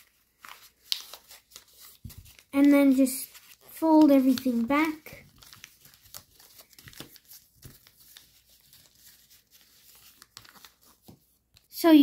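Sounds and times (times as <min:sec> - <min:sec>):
foil paper crinkling: 0:00.0 - 0:11.2.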